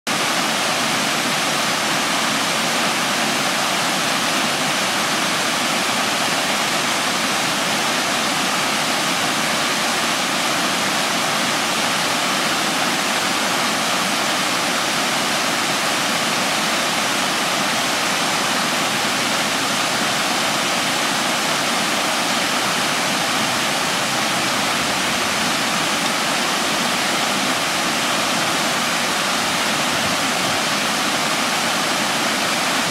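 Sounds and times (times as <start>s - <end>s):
fountain water cascading: 0.1s - 32.9s.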